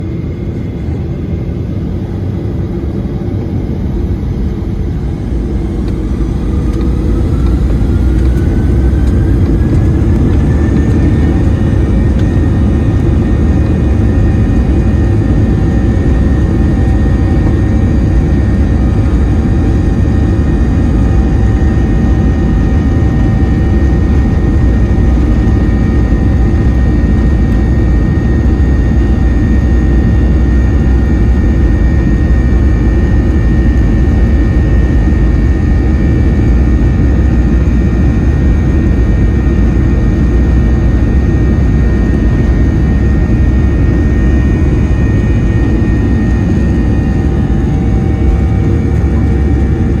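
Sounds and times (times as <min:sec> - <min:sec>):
jet engine roar: 0:00.0 - 0:50.0
engine whine rising in pitch: 0:02.4 - 0:50.0.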